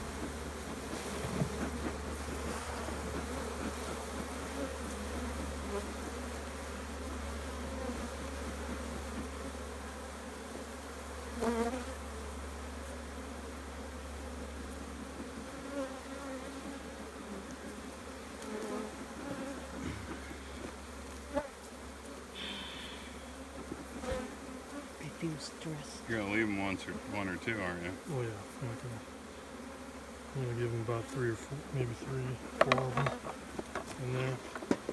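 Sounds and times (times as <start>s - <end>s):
single bee flying close by: 0.0s - 32.6s
bees buzzing: 0.0s - 34.9s.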